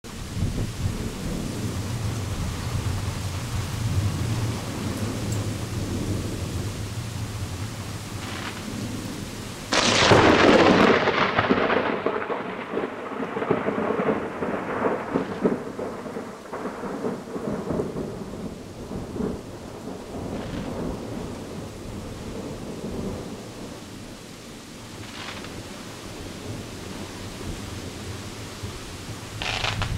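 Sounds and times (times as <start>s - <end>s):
steady rain: 0.0s - 29.9s
thunder rumbling: 0.1s - 29.9s.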